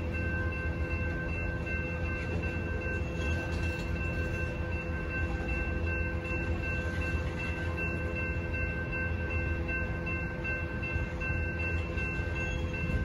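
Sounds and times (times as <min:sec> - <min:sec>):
crossing warning bell: 0:00.0 - 0:13.0
train wheels rumbling on rails: 0:00.0 - 0:13.0.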